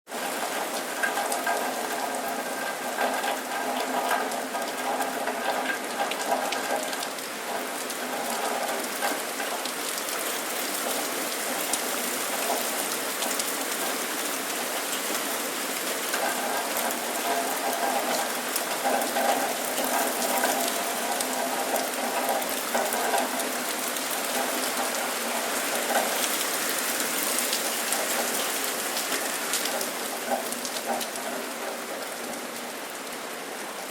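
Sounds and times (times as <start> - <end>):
rain drops on hard surface: 0.1 - 33.9.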